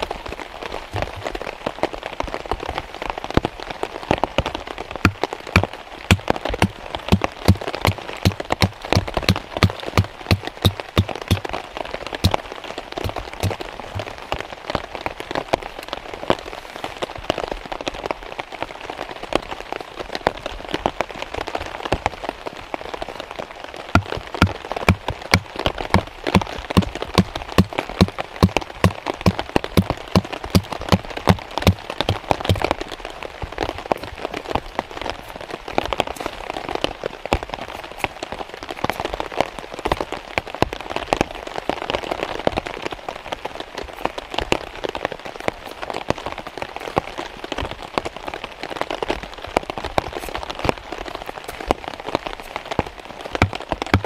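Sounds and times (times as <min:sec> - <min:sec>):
heavy rain on a tarp: 0:00.0 - 0:54.0.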